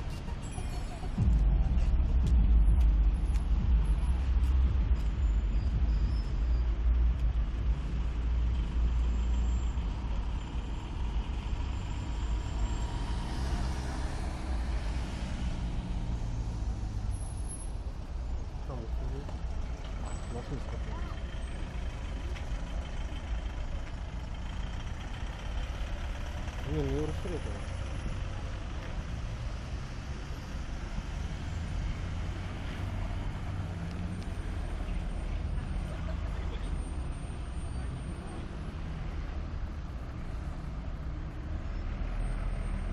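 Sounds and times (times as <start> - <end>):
engine rumbling: 0.0 - 42.9
vehicle noise: 0.0 - 42.9.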